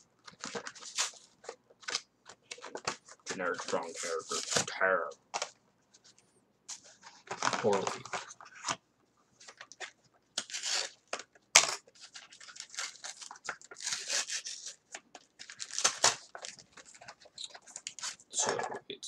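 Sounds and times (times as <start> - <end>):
packaging and cards crinkling: 0.2 - 5.6, 6.7 - 8.8, 9.4 - 18.2.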